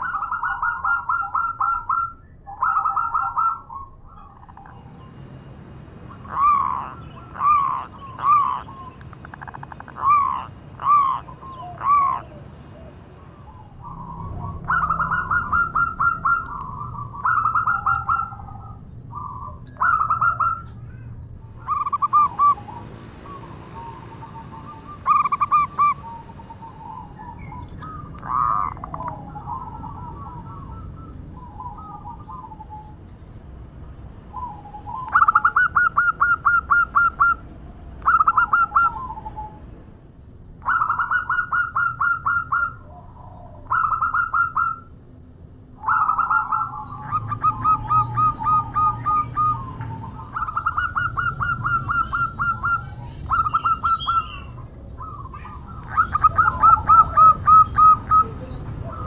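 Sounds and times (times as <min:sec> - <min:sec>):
dove cooing: 0:00.0 - 0:04.8, 0:06.2 - 0:21.0, 0:21.6 - 0:33.0, 0:34.3 - 0:39.7, 0:40.6 - 0:44.9, 0:45.8 - 0:59.0.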